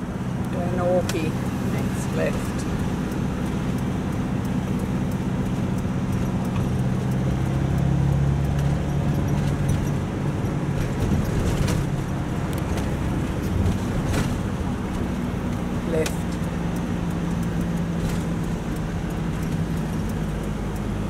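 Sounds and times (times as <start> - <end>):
road noise inside car: 0.0 - 21.0
vehicle engine hum: 0.0 - 21.0.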